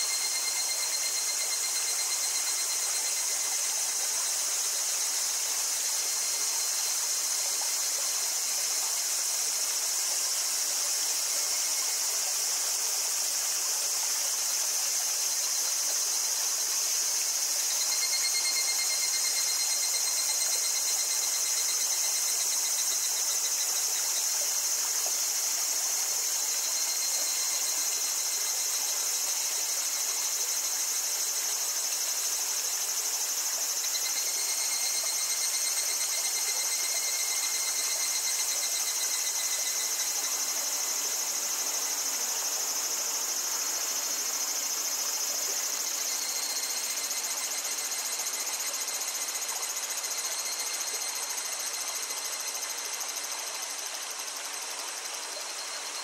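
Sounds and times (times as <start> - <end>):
cicadas singing: 0.0 - 56.0
pulsing insect trill: 0.0 - 56.0
small stream trickling: 0.0 - 56.0.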